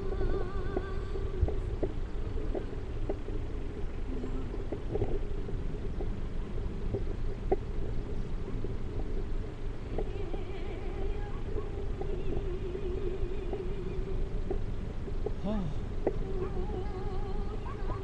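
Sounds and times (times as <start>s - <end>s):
low wavering hum: 0.0s - 18.0s
wind rumble on microphone: 0.0s - 18.0s.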